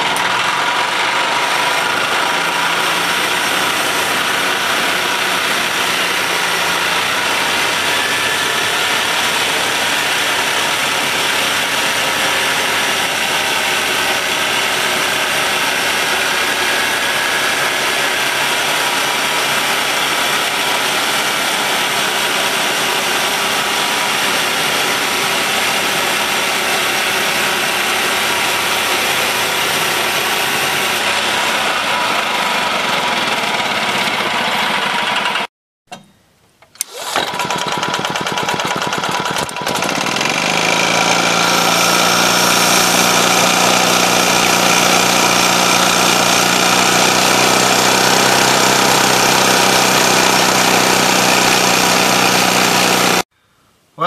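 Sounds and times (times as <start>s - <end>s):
engine-driven sawmill running: 0.0s - 53.3s.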